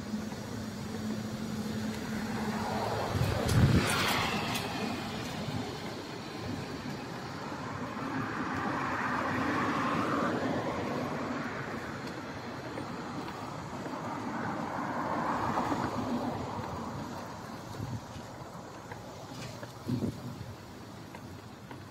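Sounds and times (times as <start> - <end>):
road traffic rush: 0.0 - 21.9.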